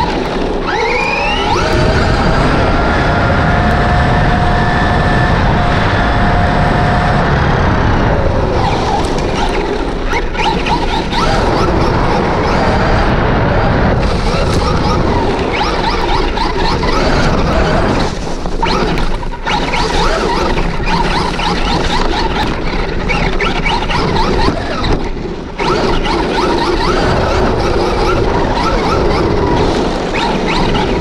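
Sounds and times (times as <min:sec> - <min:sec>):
electric motor whine: 0:00.0 - 0:31.0
wind and road rumble: 0:00.0 - 0:31.0.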